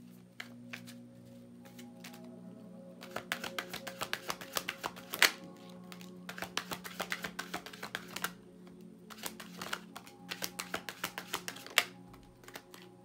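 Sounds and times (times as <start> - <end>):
cards shuffling and flicking: 0.0 - 1.0, 1.6 - 2.3, 3.0 - 8.4, 9.1 - 12.9
soft background music: 0.0 - 13.0.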